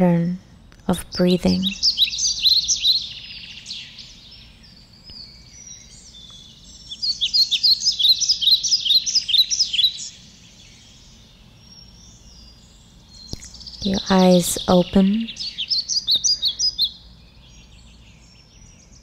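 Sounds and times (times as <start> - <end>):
faint low hum: 0.0 - 19.0
small birds chirping: 0.0 - 19.0.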